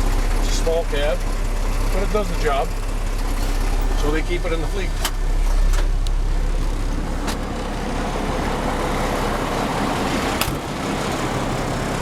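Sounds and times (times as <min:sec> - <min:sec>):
diesel engine idling rattly: 0:00.0 - 0:12.0.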